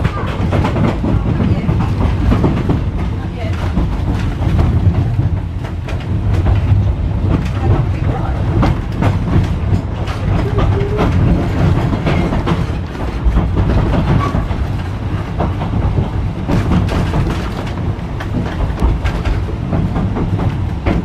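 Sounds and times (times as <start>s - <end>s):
tram rumbling: 0.0s - 21.0s
wheels clicking on rails: 0.0s - 21.0s.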